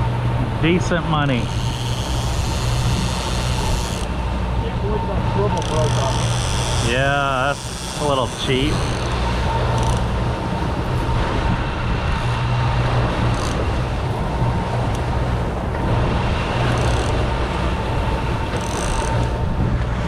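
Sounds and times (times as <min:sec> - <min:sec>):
boat engine humming: 0:00.0 - 0:20.0
wind noise: 0:00.0 - 0:20.0.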